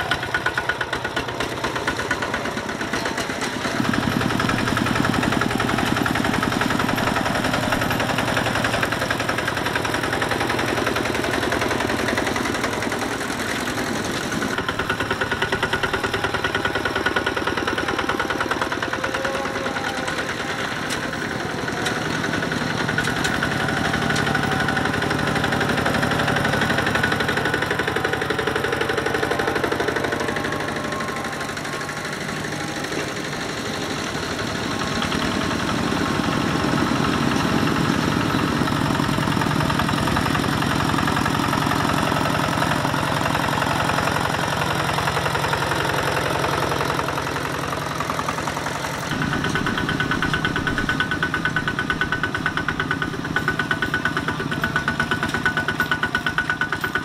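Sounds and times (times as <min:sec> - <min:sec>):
tractor diesel engines chugging: 0:00.0 - 0:57.0.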